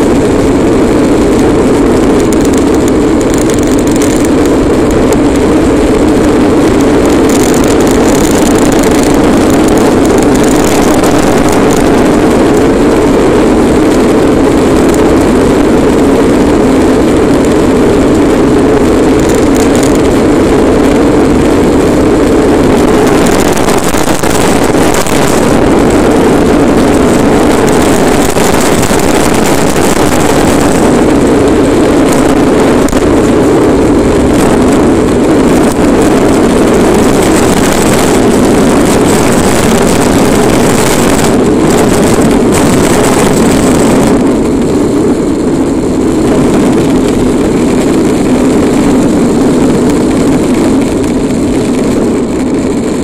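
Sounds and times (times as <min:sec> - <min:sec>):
plastic toy wheels rumbling on asphalt: 0:00.0 - 0:53.0.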